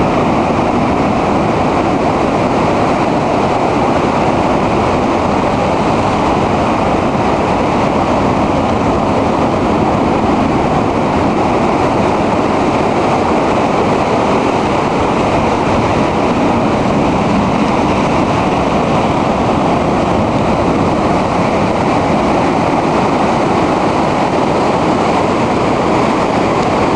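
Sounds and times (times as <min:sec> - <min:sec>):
surf crashing on rocks: 0:00.0 - 0:26.9.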